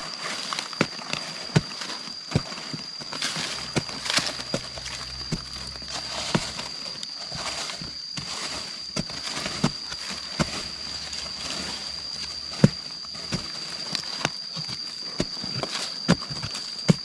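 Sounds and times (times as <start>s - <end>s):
footsteps in dry leaves: 0.0s - 17.0s
high-pitched drone: 0.0s - 17.0s.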